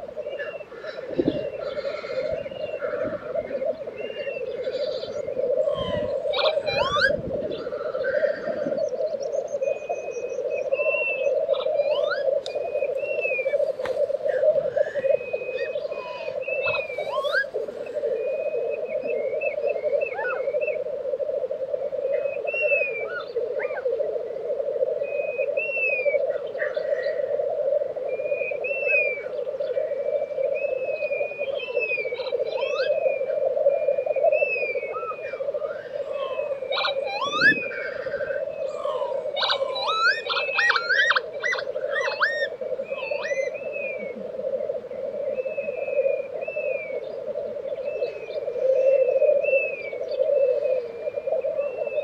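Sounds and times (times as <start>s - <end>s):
whistled bird calls: 0.0s - 20.9s, 22.0s - 23.9s, 25.0s - 27.2s, 28.1s - 52.0s
bubbling grouse chorus: 0.0s - 52.0s.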